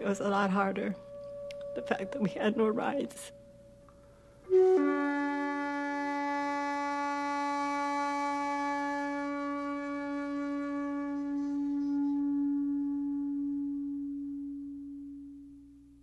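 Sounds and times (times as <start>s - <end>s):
long held musical note: 0.0s - 16.0s.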